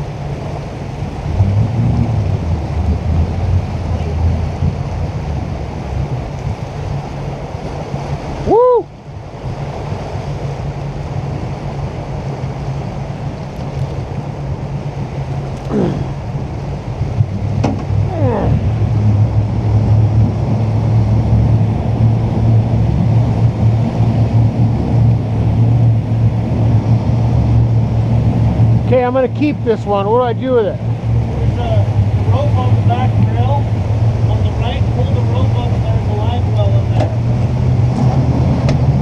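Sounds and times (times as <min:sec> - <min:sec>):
jet boat engine running: 0:00.0 - 0:39.0
water: 0:00.0 - 0:39.0
wind noise: 0:00.0 - 0:39.0.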